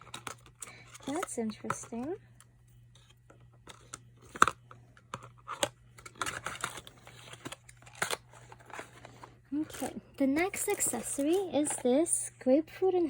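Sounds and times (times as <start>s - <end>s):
packaging crinkly rustling: 0.0s - 2.2s, 2.8s - 11.8s.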